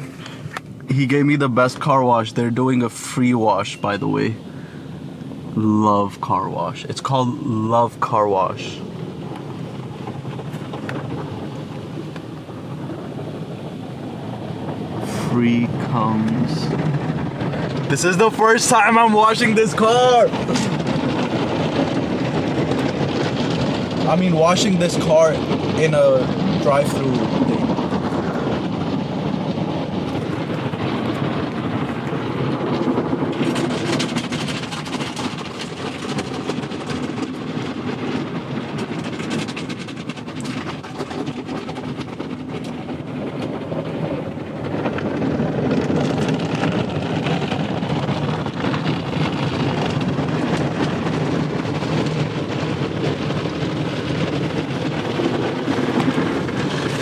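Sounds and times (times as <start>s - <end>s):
car wash water spray and machinery: 0.0s - 57.0s.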